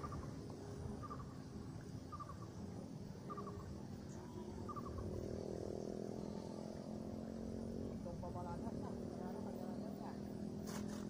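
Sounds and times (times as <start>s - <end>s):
low outdoor rumble: 0.0s - 11.0s
low steady hum: 0.0s - 11.0s.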